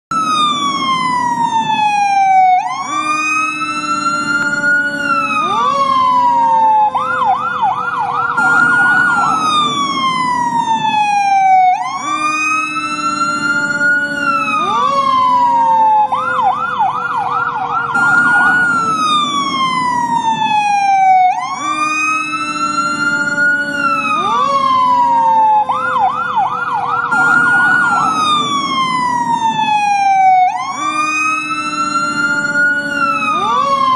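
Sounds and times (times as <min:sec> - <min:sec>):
fire truck siren wailing and yelping: 0:00.1 - 0:33.9.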